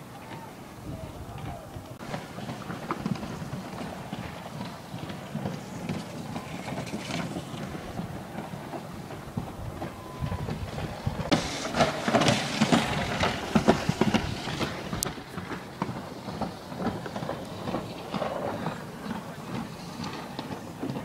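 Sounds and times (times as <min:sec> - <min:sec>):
sled clattering down a track: 0:00.0 - 0:21.0.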